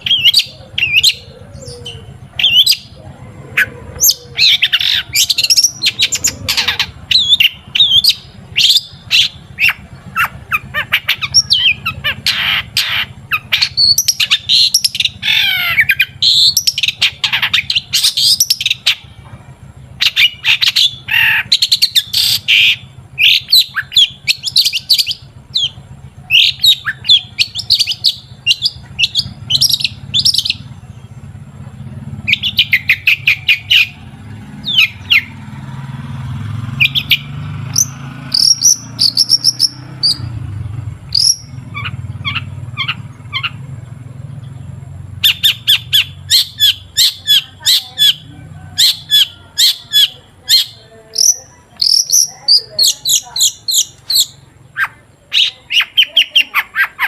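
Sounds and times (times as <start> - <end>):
bird singing sharp chirps and trills: 0.0 - 19.2, 19.8 - 57.0
steady low hum: 0.0 - 55.7.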